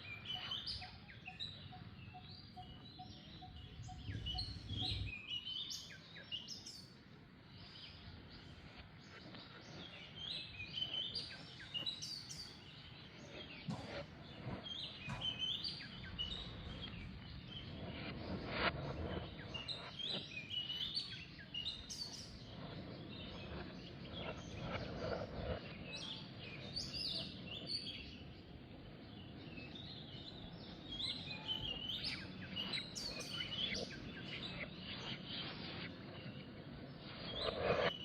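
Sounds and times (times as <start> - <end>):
birds chirping: 0.0 - 18.2, 19.2 - 38.0.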